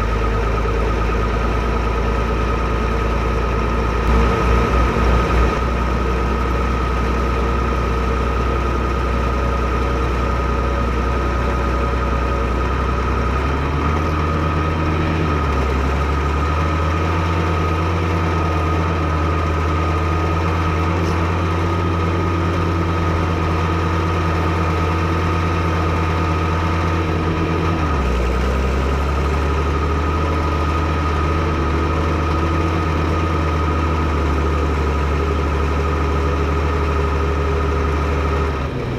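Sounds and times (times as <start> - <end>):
tractor diesel engine: 0.0 - 38.9.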